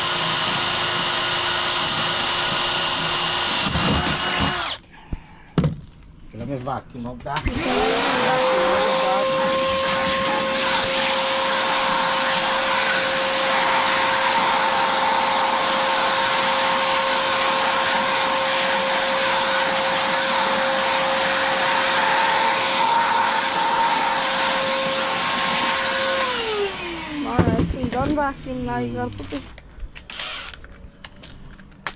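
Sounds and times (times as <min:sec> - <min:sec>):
vacuum cleaner running: 0:00.0 - 0:04.8, 0:07.4 - 0:29.4.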